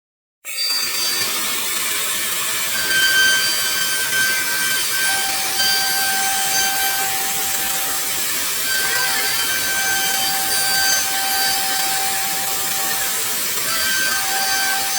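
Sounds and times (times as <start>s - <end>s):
router spindle high whine: 0.5s - 14.9s
router bit hissing through wood: 0.7s - 14.9s.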